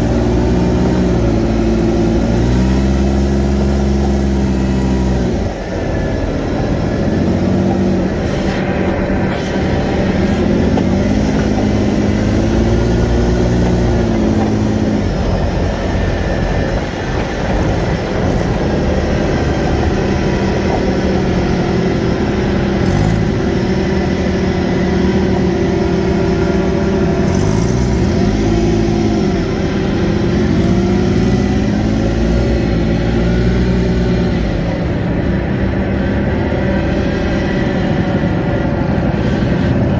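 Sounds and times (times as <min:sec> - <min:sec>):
steady rushing noise: 0:00.0 - 0:39.9
vehicle engine revving: 0:00.0 - 0:39.9.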